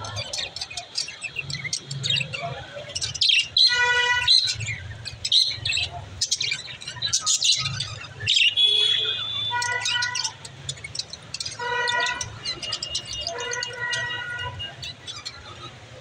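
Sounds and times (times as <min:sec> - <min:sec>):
budgerigars chattering: 0:00.0 - 0:15.8.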